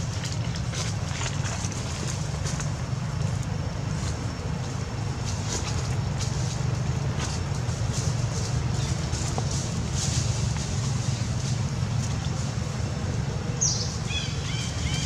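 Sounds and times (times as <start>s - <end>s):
dry grass rustling: 0.0s - 13.6s
low outdoor rumble: 0.0s - 15.0s.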